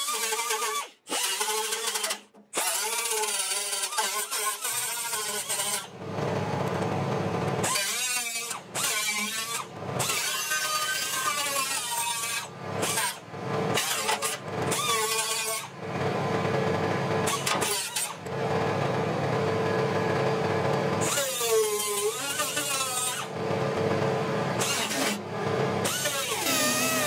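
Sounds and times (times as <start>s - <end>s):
air grinder grinding steel: 0.0s - 6.5s, 7.6s - 16.6s, 17.2s - 18.5s, 21.0s - 27.0s.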